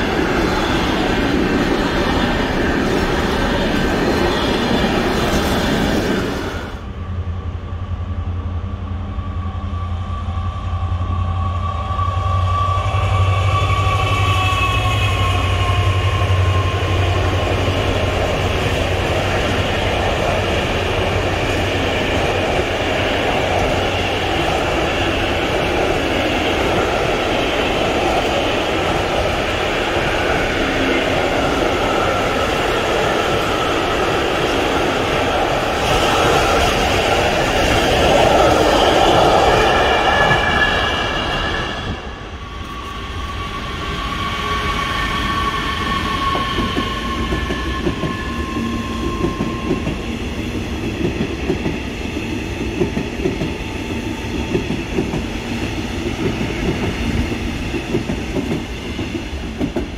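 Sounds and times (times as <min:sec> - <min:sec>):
train rail noise: 0:00.0 - 0:59.9
train rumbling past: 0:00.0 - 0:59.9.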